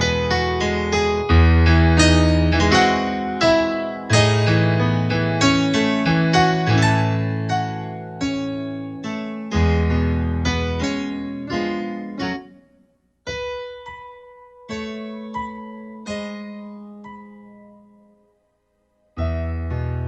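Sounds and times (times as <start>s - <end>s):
slow solo piano music: 0.0s - 18.3s, 19.1s - 20.0s.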